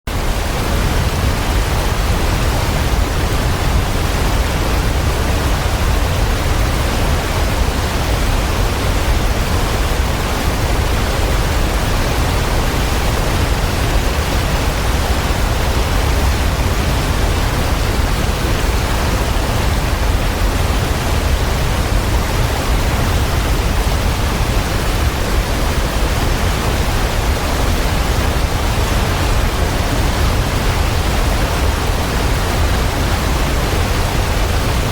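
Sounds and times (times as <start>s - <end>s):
steady rushing noise: 0.1s - 34.9s.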